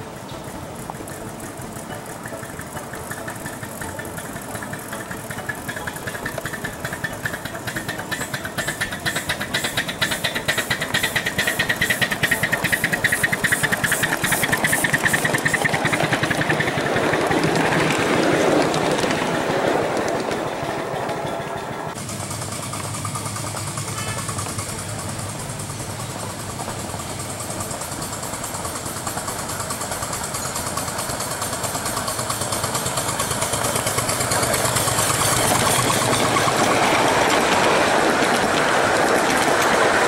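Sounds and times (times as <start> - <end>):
model train chugging: 0.0 - 40.0
train rushing past: 0.0 - 40.0.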